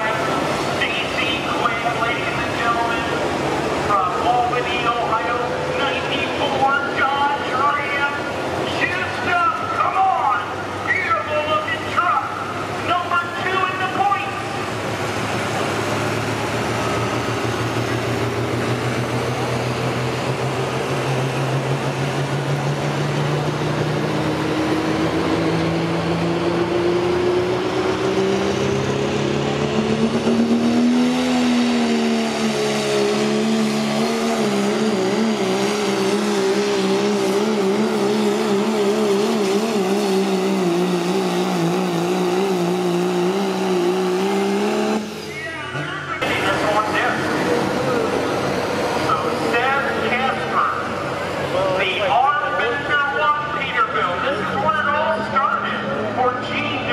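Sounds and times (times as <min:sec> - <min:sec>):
diesel truck engine at full power: 0:00.0 - 0:56.9.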